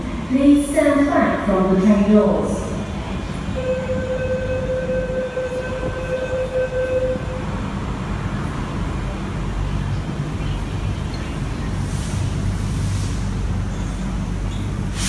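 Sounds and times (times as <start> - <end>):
train rumbling at platform: 0.0 - 15.0.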